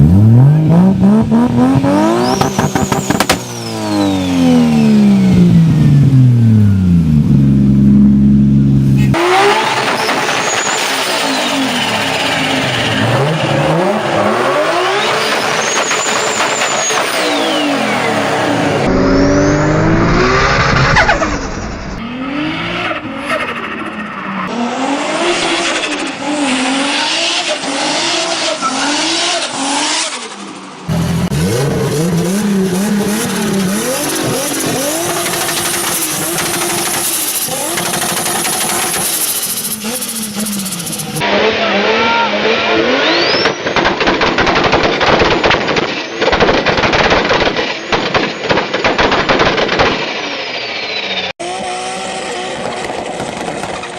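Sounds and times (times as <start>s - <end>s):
turbocharged car engines revving: 0.0s - 45.1s, 50.7s - 53.9s.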